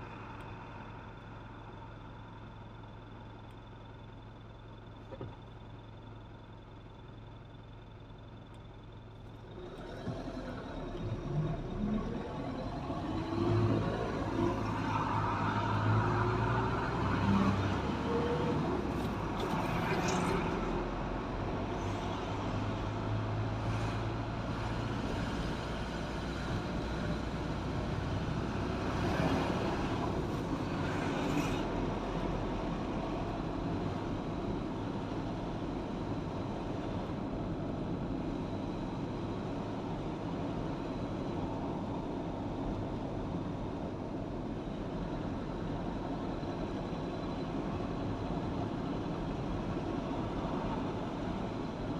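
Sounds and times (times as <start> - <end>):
car tyre and engine noise: 0.0 - 51.9
passing traffic: 9.4 - 51.9.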